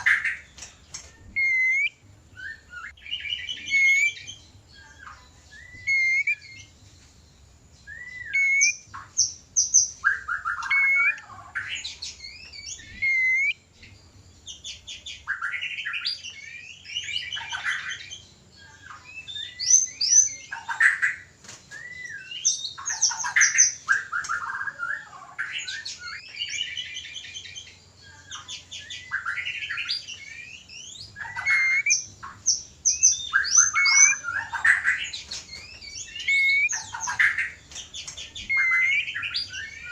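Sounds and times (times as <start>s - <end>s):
songbird whistling and trilling: 0.0s - 6.8s, 7.8s - 39.9s.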